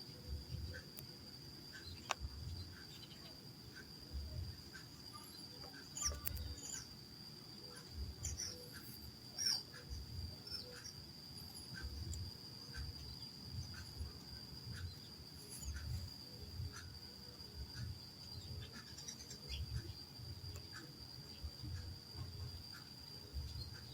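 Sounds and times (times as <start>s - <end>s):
insect trilling: 0.0s - 23.9s.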